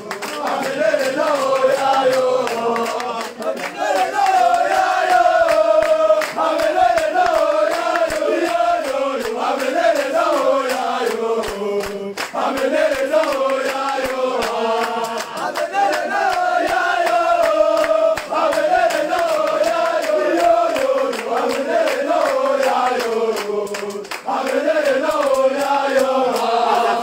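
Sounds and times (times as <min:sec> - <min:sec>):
group chanting in unison: 0:00.0 - 0:27.0.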